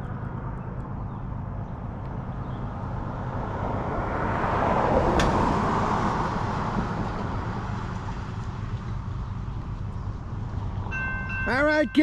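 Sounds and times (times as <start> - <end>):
pickup truck driving past: 1.4 - 11.4.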